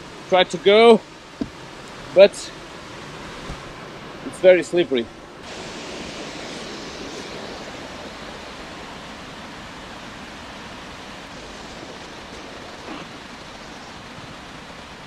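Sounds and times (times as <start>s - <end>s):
river rushing over small fall: 0.0s - 15.0s.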